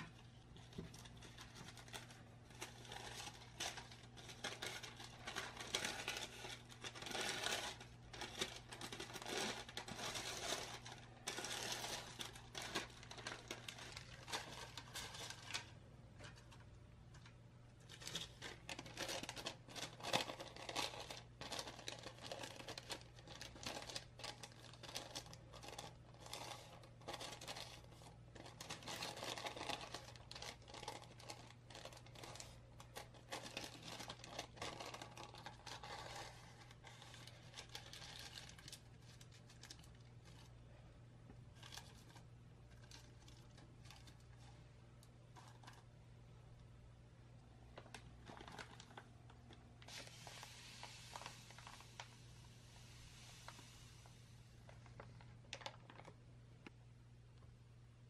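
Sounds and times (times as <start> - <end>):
baking parchment crinkling: 0.0 - 46.7, 47.4 - 56.8.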